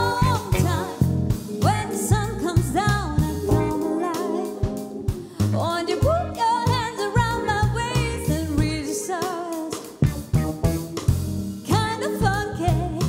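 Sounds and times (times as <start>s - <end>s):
woman singing: 0.0s - 1.0s, 1.6s - 10.0s, 11.7s - 13.0s
drum kit: 0.0s - 13.0s
soul-pop band playing: 0.0s - 13.0s.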